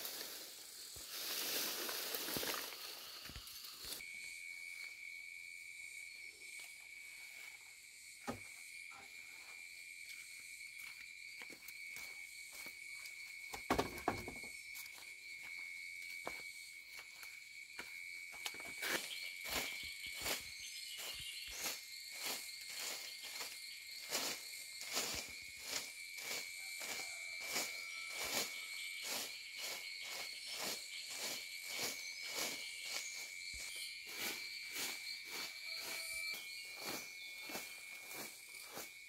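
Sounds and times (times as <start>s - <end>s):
high-pitched insect drone: 0.0s - 39.0s.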